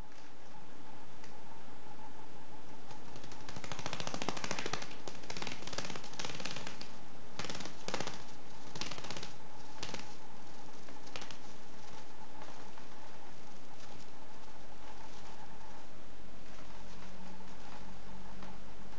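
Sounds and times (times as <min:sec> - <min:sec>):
bird wings fluttering rapidly: 0:02.8 - 0:18.6.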